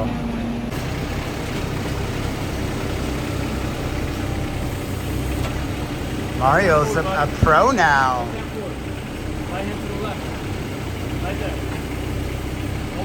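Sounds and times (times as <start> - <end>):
diesel engine idling: 0.4 - 13.0.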